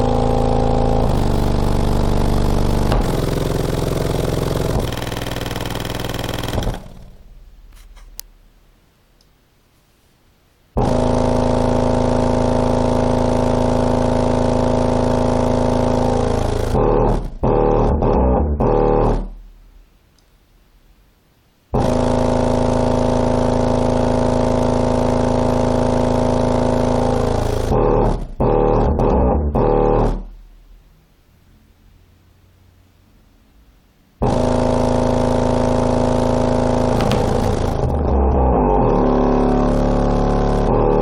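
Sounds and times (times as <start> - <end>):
distorted subwoofer bass: 0.0 - 8.7, 10.8 - 20.0, 21.8 - 31.0, 34.2 - 41.0.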